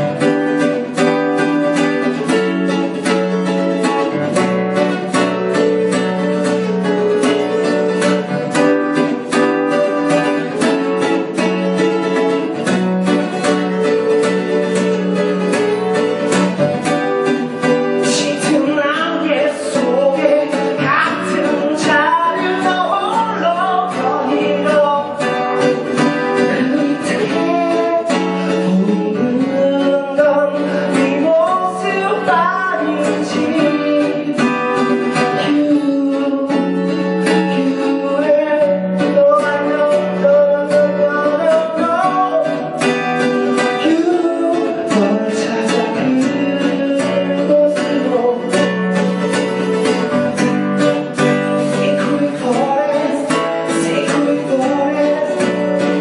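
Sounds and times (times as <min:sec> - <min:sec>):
man singing: 0:00.0 - 0:56.0
strummed acoustic guitar: 0:00.0 - 0:56.0.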